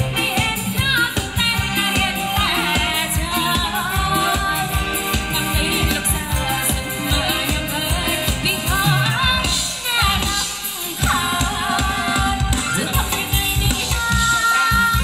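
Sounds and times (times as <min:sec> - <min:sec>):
amplified band playing: 0:00.0 - 0:15.0
person singing: 0:00.0 - 0:15.0
steady drum beat: 0:00.0 - 0:15.0.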